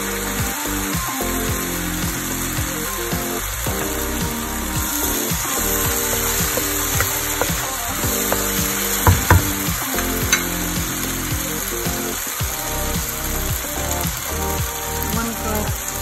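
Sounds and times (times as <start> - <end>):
sauce sizzling in oil: 1.1 - 16.0.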